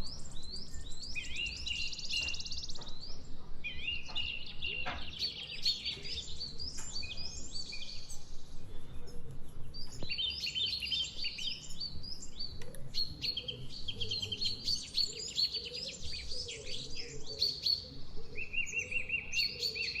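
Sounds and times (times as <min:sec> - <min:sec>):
bird trill: 0:00.0 - 0:08.3, 0:09.8 - 0:20.0
songbirds chirping: 0:00.0 - 0:20.0.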